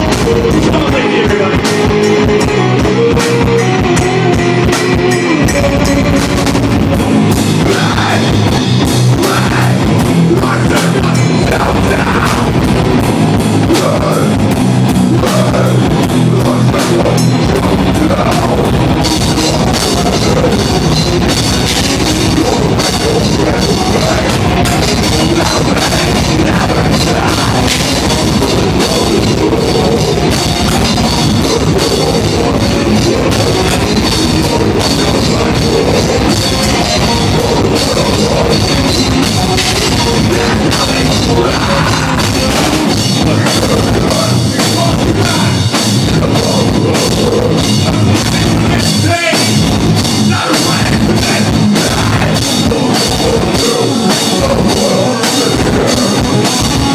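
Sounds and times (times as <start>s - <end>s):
drum kit: 0.0s - 56.9s
electric guitar: 0.0s - 56.9s.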